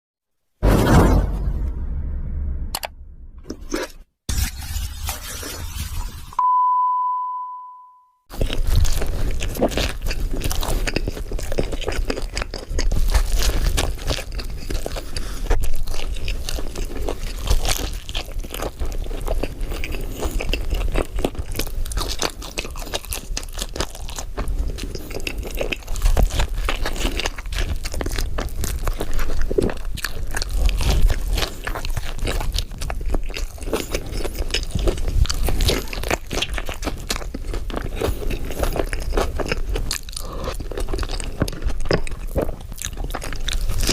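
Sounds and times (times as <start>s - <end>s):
crunching bites of food: 8.3s - 43.9s
wet chewing: 8.3s - 43.9s.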